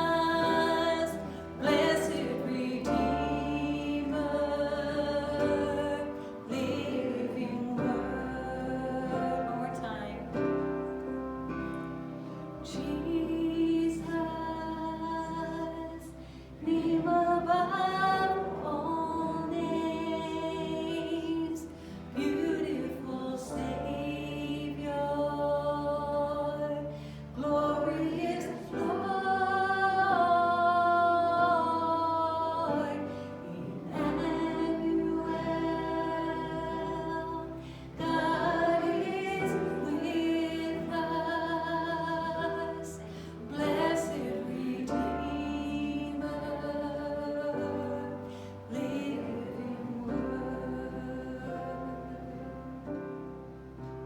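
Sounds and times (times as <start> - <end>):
voices singing slow worship song: 0.0 - 54.0.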